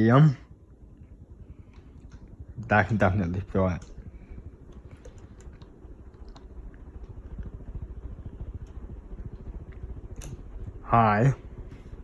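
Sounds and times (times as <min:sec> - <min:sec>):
ceiling fan running: 0:00.0 - 0:12.0.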